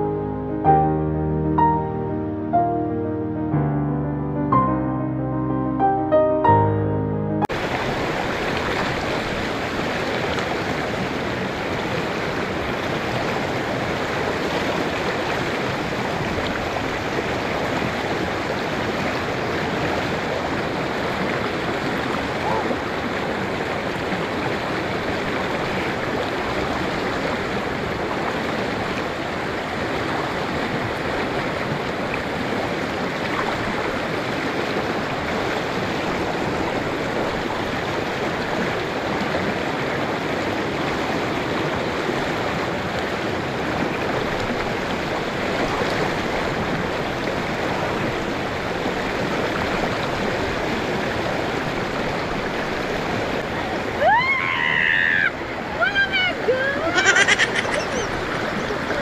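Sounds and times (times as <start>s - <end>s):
river rapids rushing over rocks: 7.5s - 54.6s, 55.4s - 59.0s.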